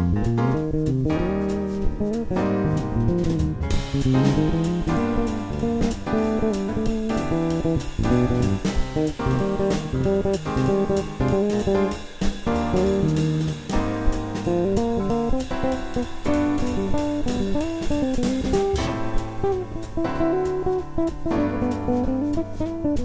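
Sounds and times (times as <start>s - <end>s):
backing track with drums: 0.0s - 23.0s
electric bass jazz lines: 0.0s - 23.0s.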